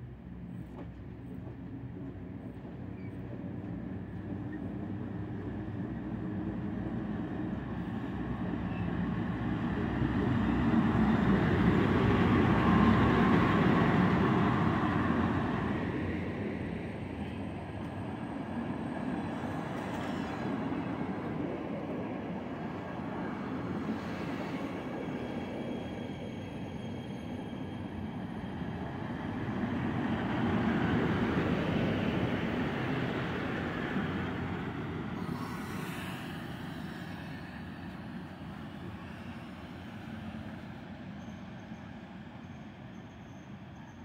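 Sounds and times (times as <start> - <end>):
train rumbling along rails: 0.0 - 44.0.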